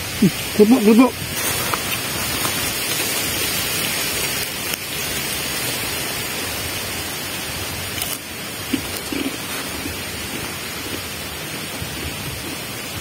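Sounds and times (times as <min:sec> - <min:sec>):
strong wind through palm fronds: 0:00.0 - 0:13.0.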